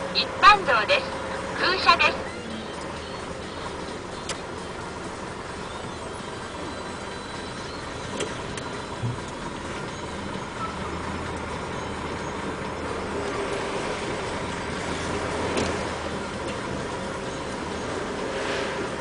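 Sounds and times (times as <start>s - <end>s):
diesel engine hum: 0.0s - 19.0s.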